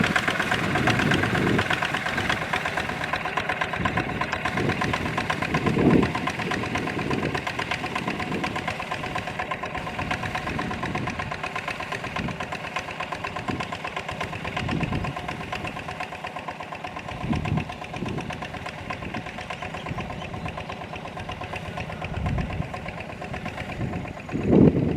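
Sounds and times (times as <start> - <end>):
tractor engine clattering: 0.0 - 24.9.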